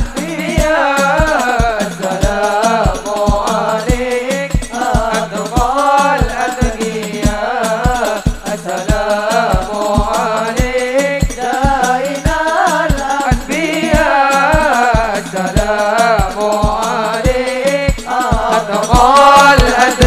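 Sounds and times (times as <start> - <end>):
drums keeping steady beat: 0.0 - 20.0
men singing devotional song: 0.0 - 20.0.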